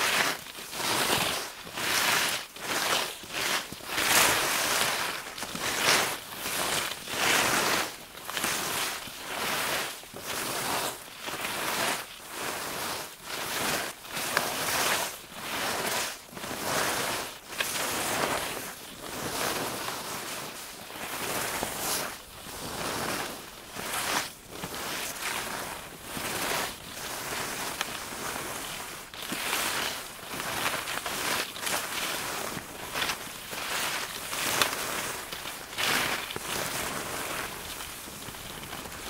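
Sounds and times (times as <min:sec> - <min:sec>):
hissing scrapes in snow: 0:00.0 - 0:39.0.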